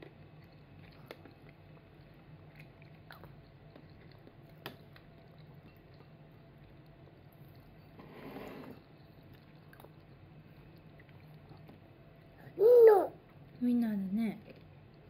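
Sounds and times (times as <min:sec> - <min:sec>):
faint chewing: 0:00.0 - 0:08.2, 0:08.8 - 0:12.4, 0:14.4 - 0:15.0
low steady hum: 0:00.0 - 0:15.0.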